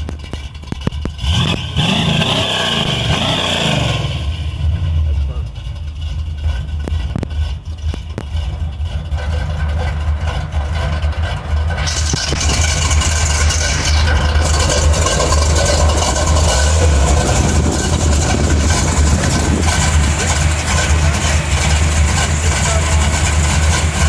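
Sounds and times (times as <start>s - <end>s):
truck engine rumbling: 0.0s - 24.0s.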